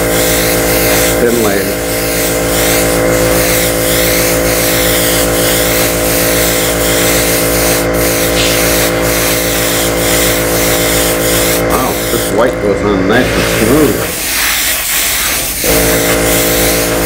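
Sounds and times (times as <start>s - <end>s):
airbrush spraying hiss: 0.0s - 12.4s, 13.3s - 17.0s
compressor humming: 0.0s - 17.0s.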